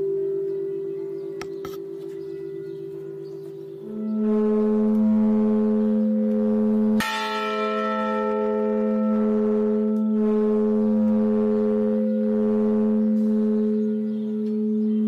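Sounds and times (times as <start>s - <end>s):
large church bell ringing: 0.0s - 15.0s.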